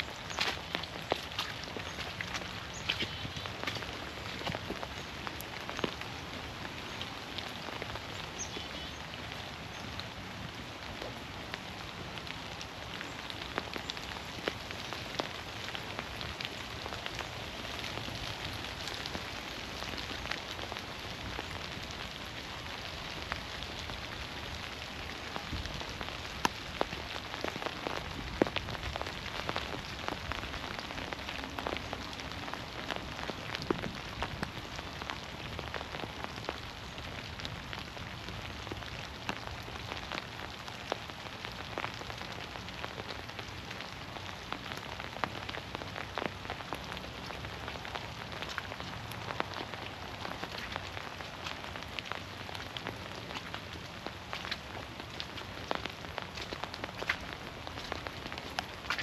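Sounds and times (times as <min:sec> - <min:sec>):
rain falling through trees: 0:00.0 - 0:59.0.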